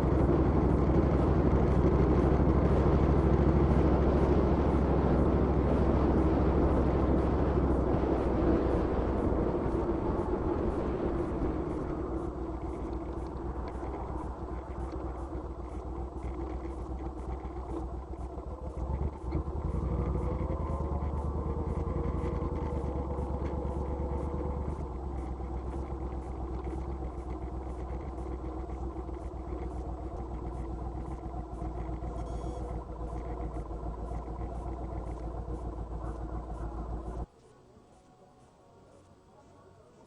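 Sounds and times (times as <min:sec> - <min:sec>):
vehicle engine running: 0:00.0 - 0:37.4.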